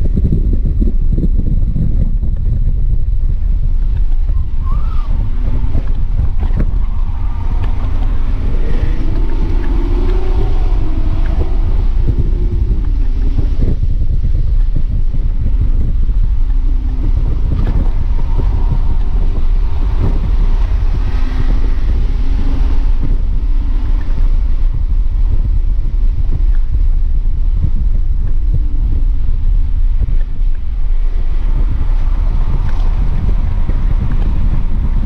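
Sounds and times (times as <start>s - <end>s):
car engine at full throttle: 0.0s - 35.0s
road rumble: 0.0s - 35.0s
wind noise: 0.0s - 35.0s.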